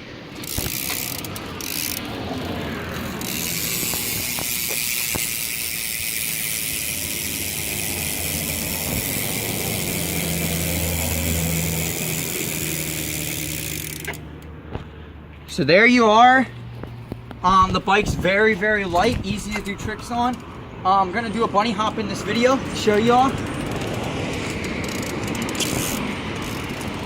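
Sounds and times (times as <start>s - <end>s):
bicycle hub ratcheting clicks: 0.4s - 14.5s, 18.9s - 20.6s, 21.2s - 27.0s.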